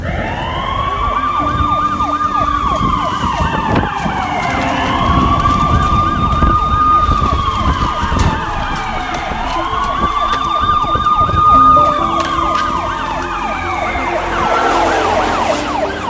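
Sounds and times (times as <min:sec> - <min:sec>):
siren fast yelp: 0:00.0 - 0:16.0
siren slow wail: 0:00.0 - 0:16.0.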